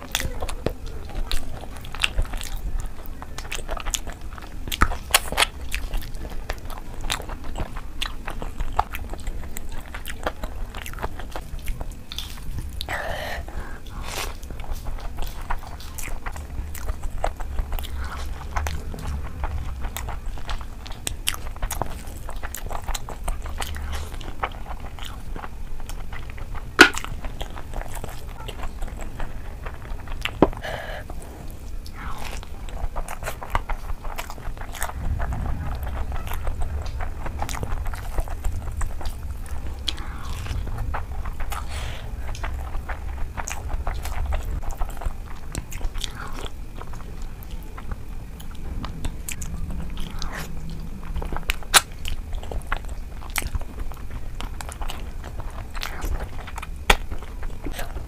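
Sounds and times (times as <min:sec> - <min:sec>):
chewing food: 0:00.0 - 0:58.0
crisp crunching: 0:00.0 - 0:58.0.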